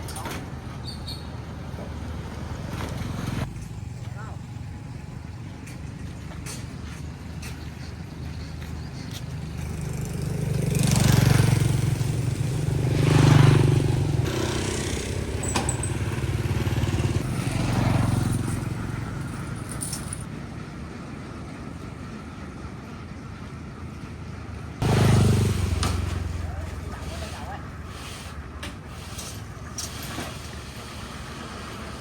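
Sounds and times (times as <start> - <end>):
motorbike engines running: 0.0 - 32.0.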